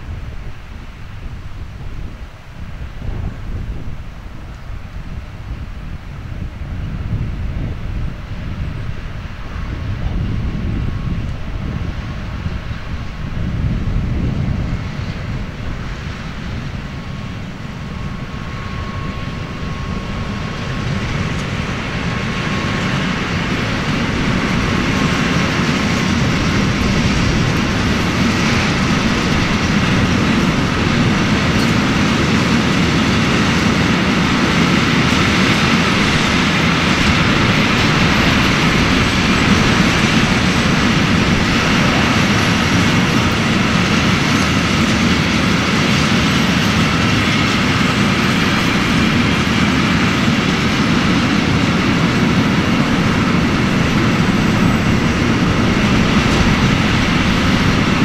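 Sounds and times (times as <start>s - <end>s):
diesel locomotive engine rumble: 0.0s - 58.0s
train wheels rolling on rails: 0.0s - 58.0s.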